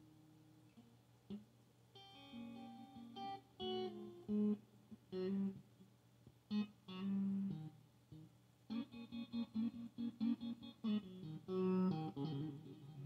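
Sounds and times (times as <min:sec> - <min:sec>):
clean electric guitar: 0:00.0 - 0:13.0.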